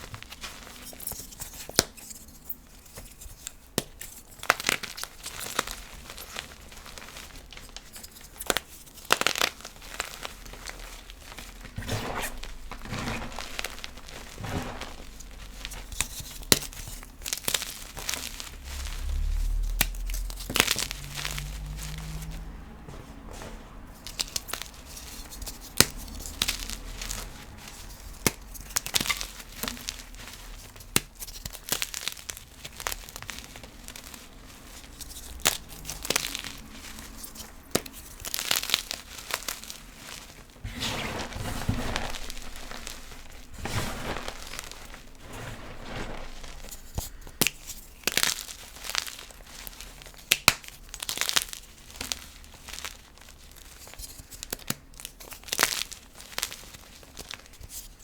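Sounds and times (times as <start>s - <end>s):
chalk crushing and crackling: 0.0s - 58.0s.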